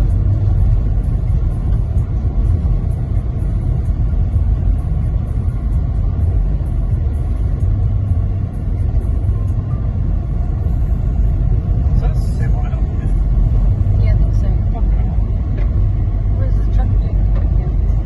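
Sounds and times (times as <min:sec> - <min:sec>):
car driving on highway: 0:00.0 - 0:18.0.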